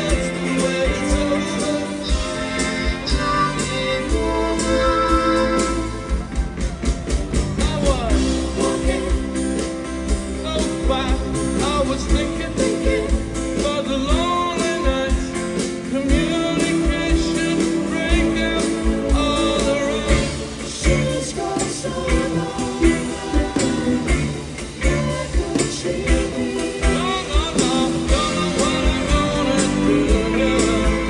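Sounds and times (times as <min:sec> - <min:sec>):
man singing: 0:00.0 - 0:06.4, 0:07.3 - 0:31.0
steady drum beat: 0:00.0 - 0:31.0.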